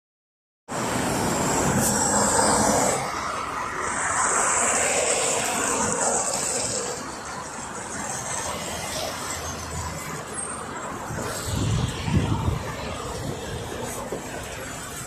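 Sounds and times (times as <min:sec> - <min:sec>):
road traffic passing: 0:00.7 - 0:15.0.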